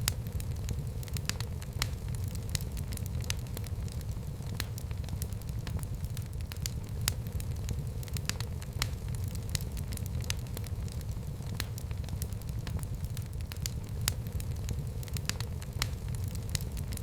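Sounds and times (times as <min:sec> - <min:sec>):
wood fire burning with pops: 0:00.0 - 0:17.0.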